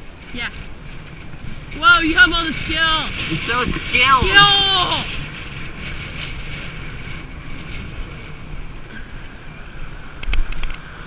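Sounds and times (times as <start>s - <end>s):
wind rumbling on microphone: 0.0s - 11.0s
sharp knocks clattering: 0.2s - 9.1s.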